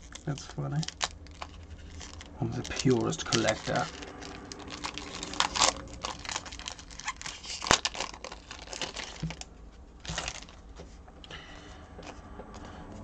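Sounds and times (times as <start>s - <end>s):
wrapper crinkling and ripping: 0.0s - 10.7s.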